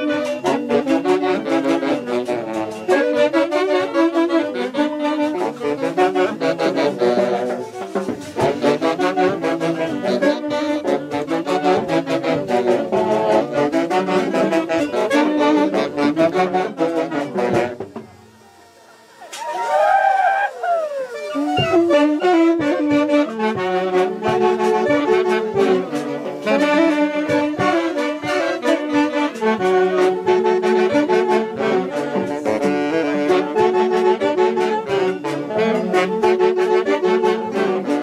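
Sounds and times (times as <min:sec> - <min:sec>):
band music led by saxophones: 0:00.0 - 0:38.0.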